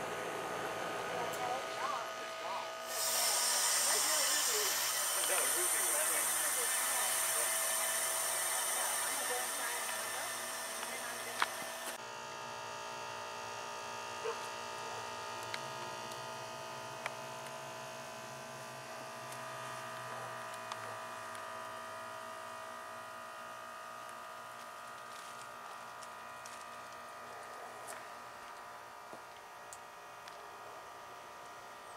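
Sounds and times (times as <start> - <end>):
electrical hum: 0.0 - 31.9.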